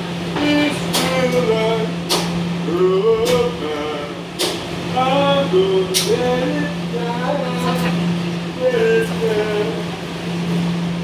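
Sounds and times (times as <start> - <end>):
subway car hum: 0.0 - 11.0.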